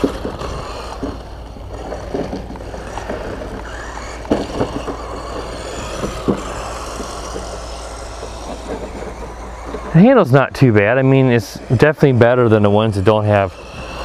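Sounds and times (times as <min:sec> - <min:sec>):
electric motor whirring: 0:00.0 - 0:14.0.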